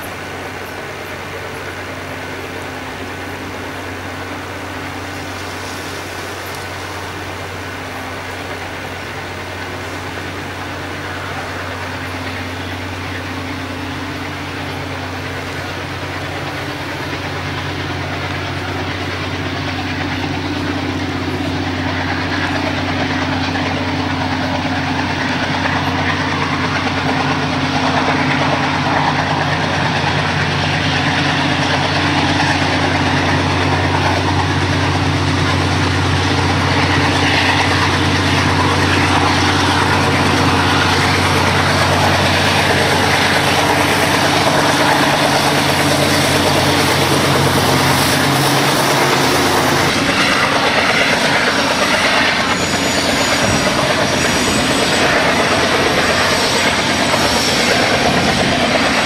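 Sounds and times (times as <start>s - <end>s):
diesel locomotive engines droning: 0.0s - 59.0s.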